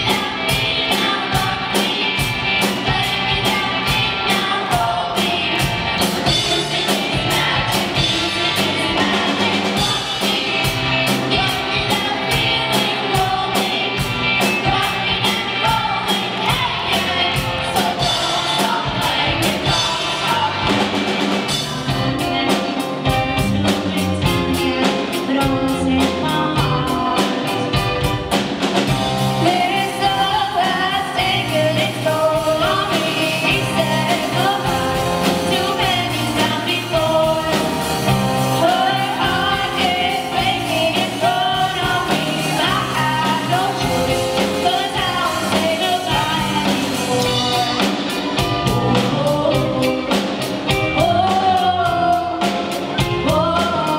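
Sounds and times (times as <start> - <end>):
people singing into microphones: 0.0 - 28.0, 28.8 - 53.9
pop-rock band playing: 0.0 - 53.9.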